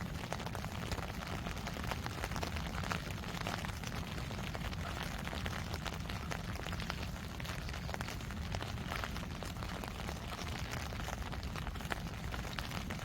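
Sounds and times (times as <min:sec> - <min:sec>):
low rain rumble: 0:00.0 - 0:13.0
raindrops ticking on surfaces: 0:00.0 - 0:13.0.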